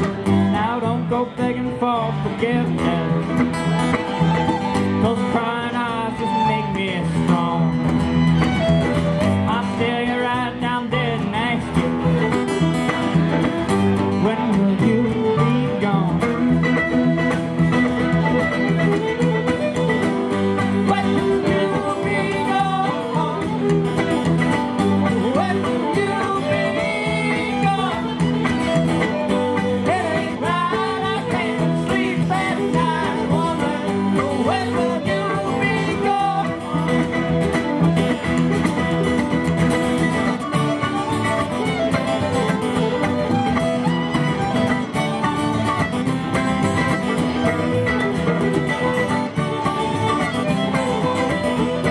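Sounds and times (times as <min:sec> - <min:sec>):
bluegrass band playing: 0:00.0 - 0:51.9.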